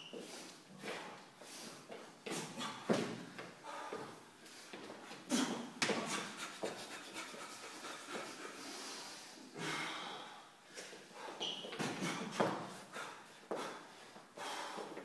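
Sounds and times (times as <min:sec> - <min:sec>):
people breathing hard: 0:00.2 - 0:15.0.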